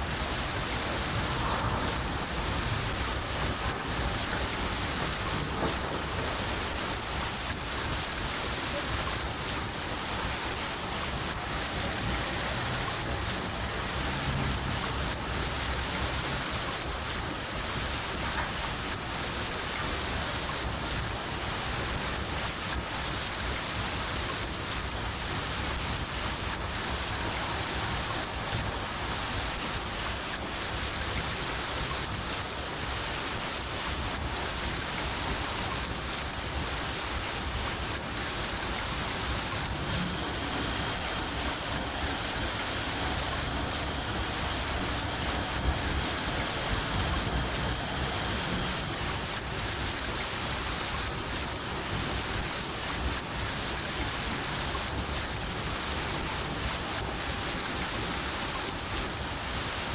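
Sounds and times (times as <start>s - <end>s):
cricket chirping: 0.0s - 59.9s
falling rain hiss: 0.0s - 59.9s.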